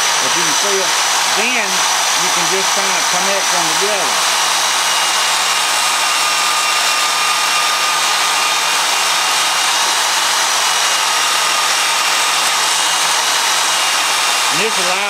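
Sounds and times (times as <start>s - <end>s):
bandsaw motor whine: 0.0s - 15.0s.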